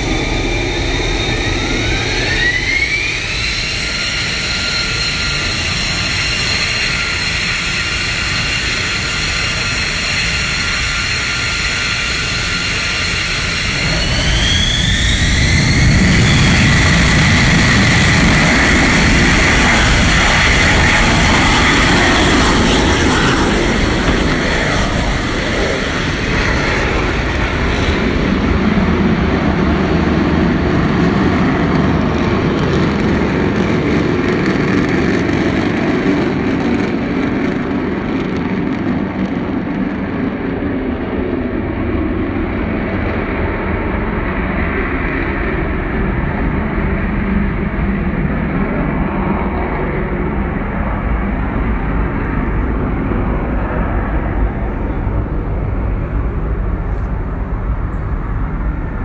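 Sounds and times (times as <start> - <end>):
jet engine whine and roar: 0.0 - 59.0.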